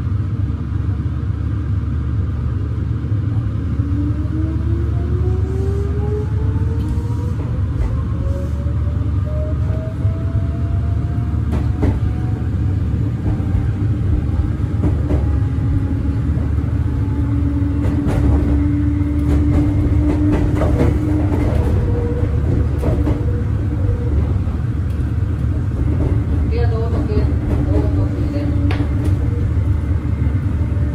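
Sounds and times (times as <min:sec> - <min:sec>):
train motor hum: 0:00.0 - 0:30.9
train wheels rumbling on rail: 0:00.0 - 0:30.9.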